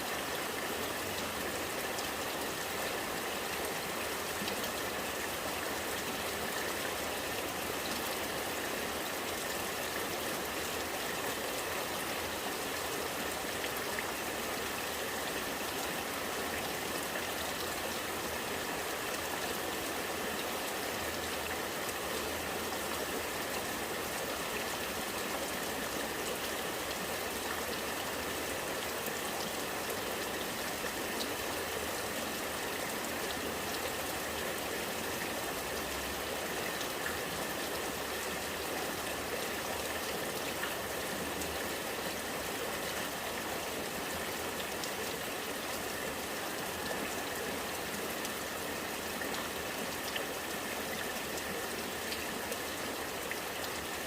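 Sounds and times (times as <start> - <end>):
rainwater running and gurgling: 0.0 - 54.0.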